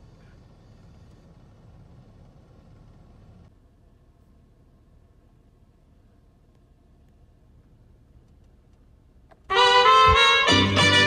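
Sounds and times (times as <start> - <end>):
faint low rumble in truck cab: 0.0 - 11.0.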